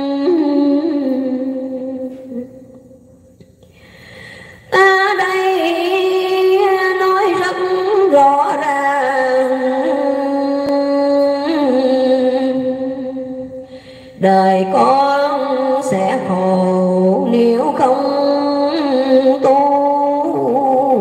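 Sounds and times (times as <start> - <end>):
woman singing into a microphone: 0.0 - 2.9, 4.4 - 21.0.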